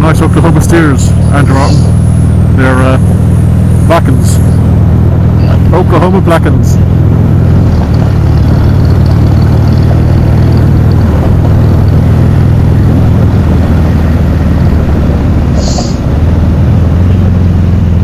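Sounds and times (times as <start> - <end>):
vehicle engine rumble: 0.0 - 18.0
wind: 0.0 - 18.0.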